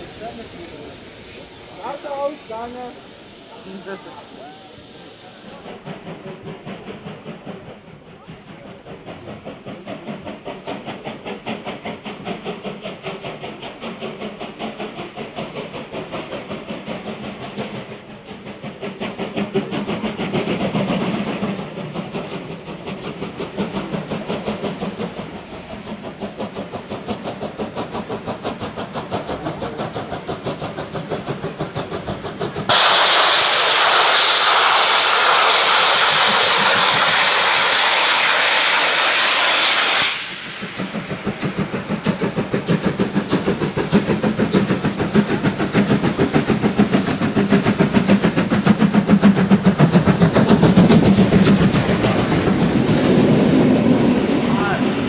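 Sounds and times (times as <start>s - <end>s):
carriages rumbling on rails: 0.0s - 55.0s
loud rushing hiss: 0.0s - 55.0s
steam locomotive chuffing: 0.0s - 55.0s.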